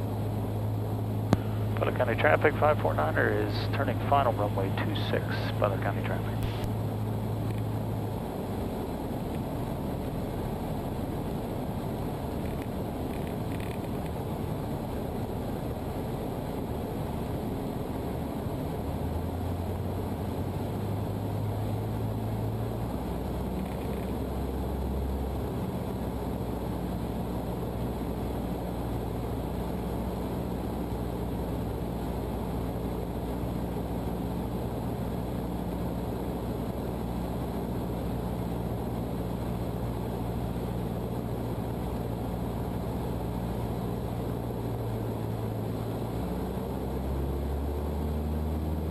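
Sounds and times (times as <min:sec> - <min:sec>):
airplane engine and propeller droning: 0:00.0 - 0:48.9.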